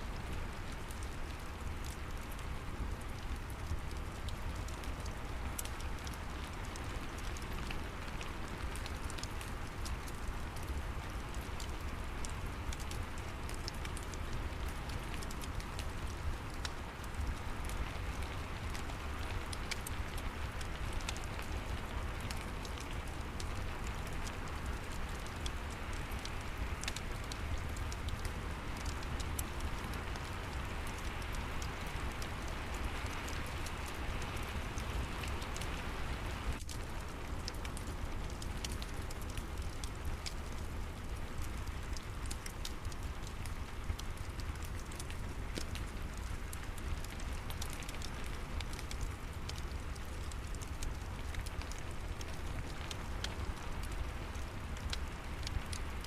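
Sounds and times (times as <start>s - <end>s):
rain falling: 0.0s - 56.0s
wood fire crackling: 0.0s - 56.0s.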